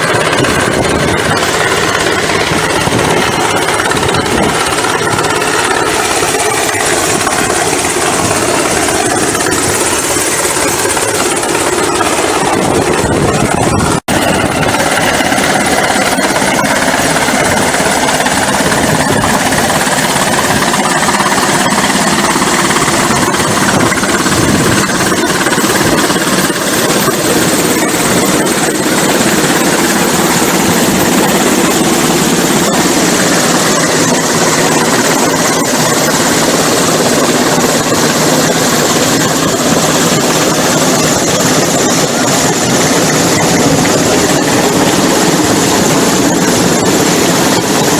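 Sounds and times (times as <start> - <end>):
helicopter hovering overhead: 0.0 - 47.9.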